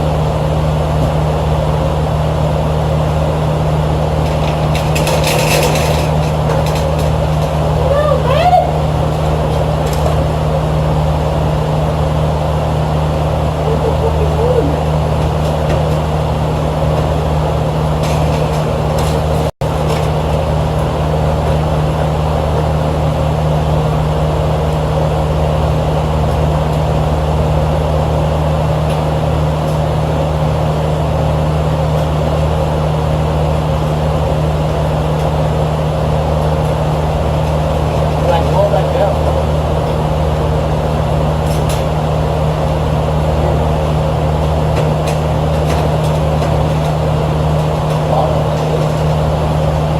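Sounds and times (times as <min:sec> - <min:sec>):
hvac machinery hum: 0:00.0 - 0:49.9.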